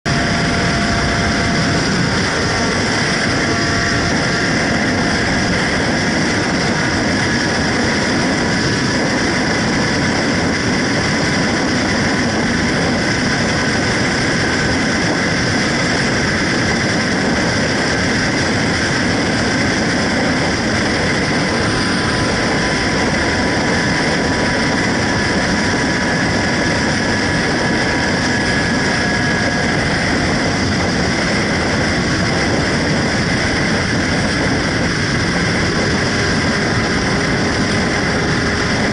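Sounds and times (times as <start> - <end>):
motorcycle engine: 0.0 - 38.9
road noise: 0.0 - 38.9.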